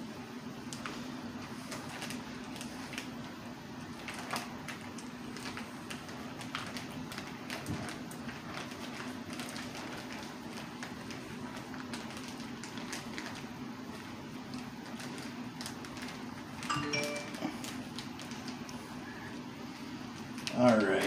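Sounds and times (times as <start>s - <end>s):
plastic bag crinkling: 0.7s - 21.0s.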